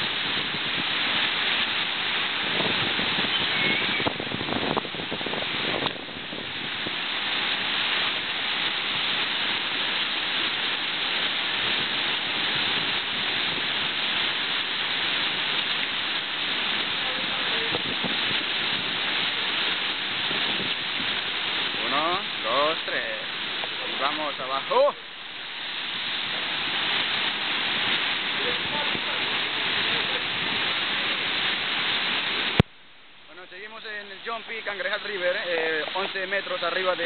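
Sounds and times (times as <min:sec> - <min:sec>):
river rapids rushing: 0:00.0 - 0:32.6, 0:33.3 - 0:37.0.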